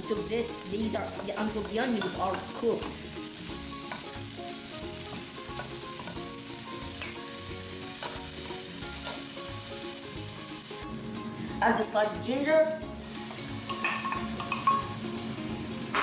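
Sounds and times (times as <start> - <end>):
onion and garlic sizzling in oil: 0.0 - 16.0.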